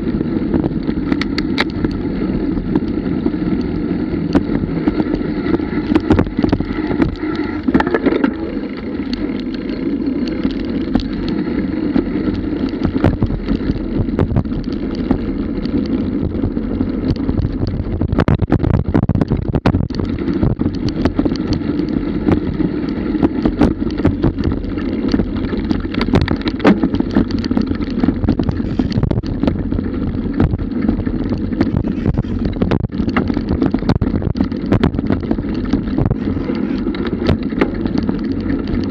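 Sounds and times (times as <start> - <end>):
bike rattling over bumps: 0.0 - 38.9
wind on camera microphone: 0.0 - 38.9.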